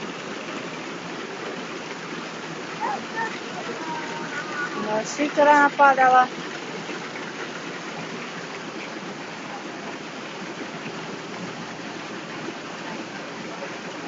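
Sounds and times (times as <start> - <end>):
heavy rain on pavement: 0.0 - 14.0
water running over ground: 0.0 - 14.0.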